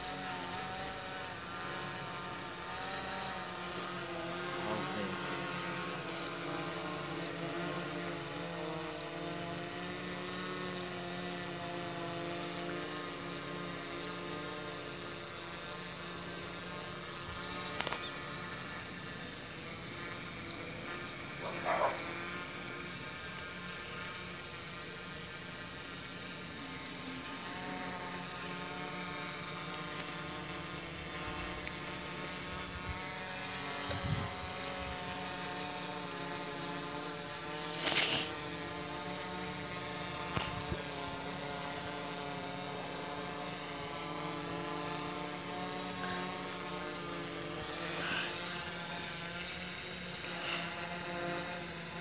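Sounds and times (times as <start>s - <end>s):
drone propellers humming: 0.0s - 52.0s.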